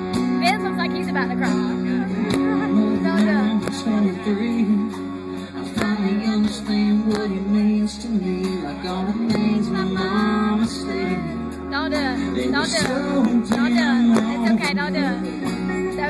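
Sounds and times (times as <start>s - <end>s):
live band with guitars and drums: 0.0s - 16.0s.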